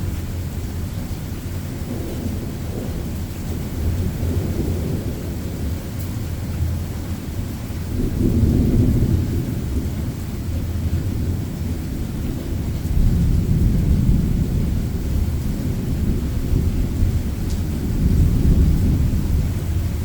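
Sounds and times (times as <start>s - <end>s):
rolling thunder: 1.8s - 20.0s.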